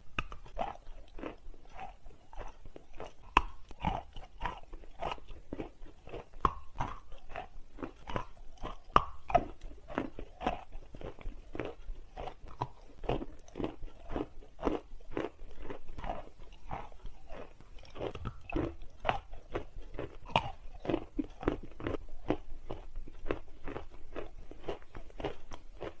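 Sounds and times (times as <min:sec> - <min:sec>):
chalk crunching while chewed: 0:00.0 - 0:26.0.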